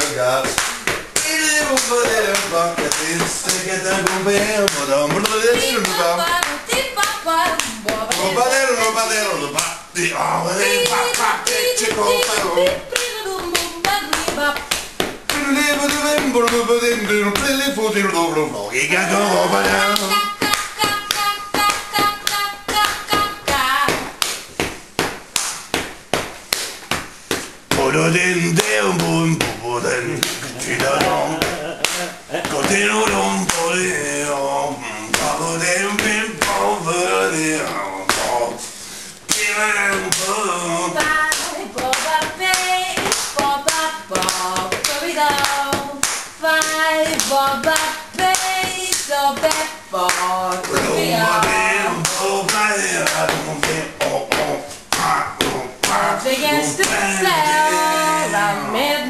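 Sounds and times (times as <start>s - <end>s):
body percussion slaps: 0.0s - 9.8s, 10.6s - 17.6s, 19.5s - 33.8s, 35.1s - 40.4s, 41.0s - 57.6s
person singing wordlessly: 0.0s - 24.1s, 27.7s - 38.7s, 39.3s - 59.0s.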